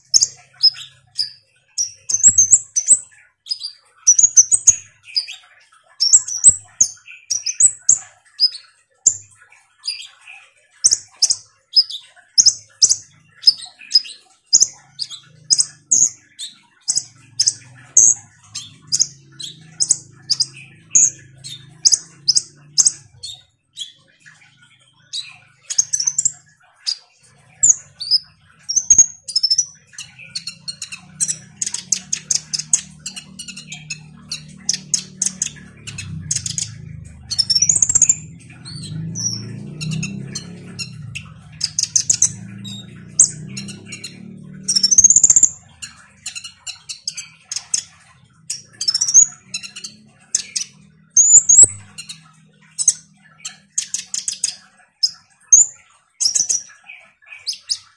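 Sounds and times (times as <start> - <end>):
sunbird chirping: 0.0 - 57.9.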